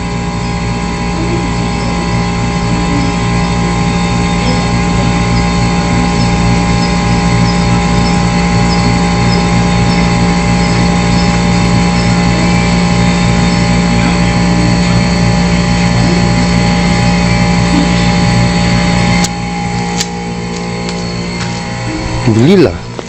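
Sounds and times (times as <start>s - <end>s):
low pulsing beat: 0.0s - 23.0s
steady mechanical drone: 0.0s - 23.0s.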